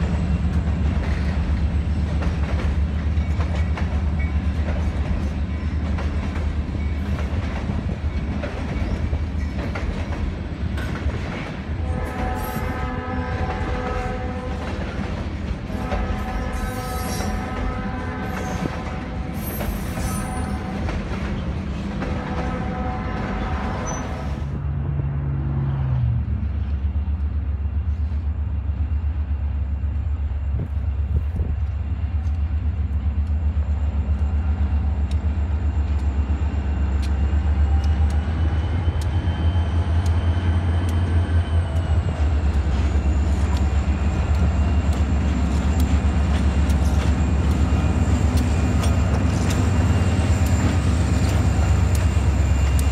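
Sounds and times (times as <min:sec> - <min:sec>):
diesel locomotive engine rumble: 0:00.0 - 0:52.9.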